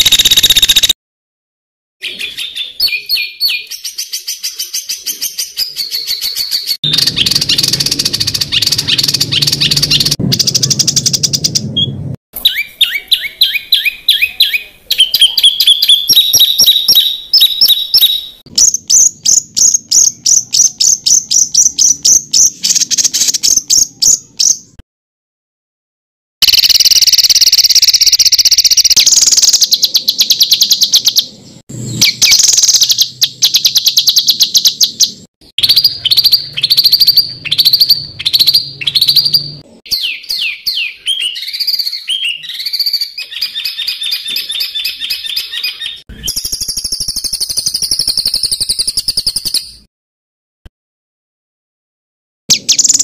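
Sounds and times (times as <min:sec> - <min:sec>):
songbird singing rapid notes: 0:00.0 - 0:01.0, 0:02.0 - 0:24.8, 0:26.4 - 0:49.8, 0:52.5 - 0:53.0.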